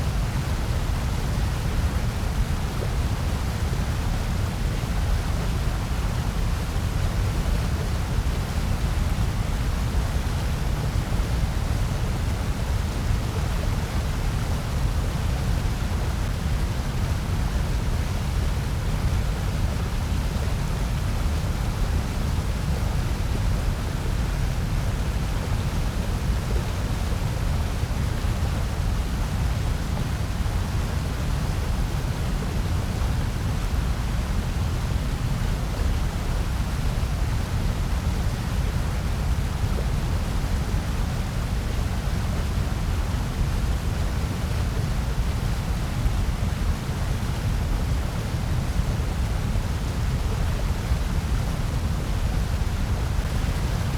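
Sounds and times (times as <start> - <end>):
white noise hiss with low rumble: 0.0 - 53.9.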